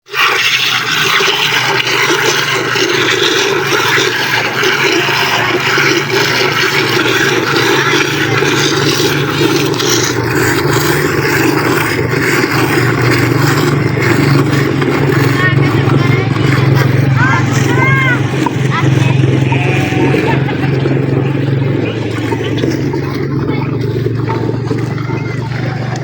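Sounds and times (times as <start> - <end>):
dense steady machine noise: 0.4 - 26.0
machine humming: 0.5 - 26.0.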